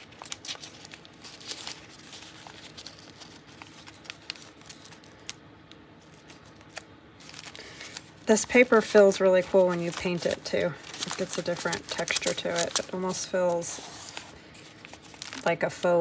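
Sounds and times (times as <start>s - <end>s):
paper crinkling and rustling: 0.0s - 16.0s.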